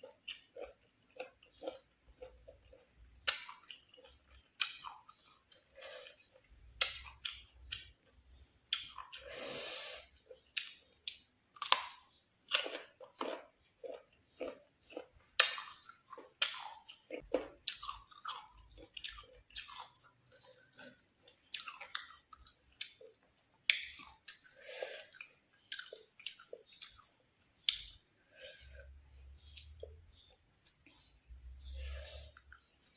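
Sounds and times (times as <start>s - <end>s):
crunchy chewing of mango: 0.0s - 32.9s.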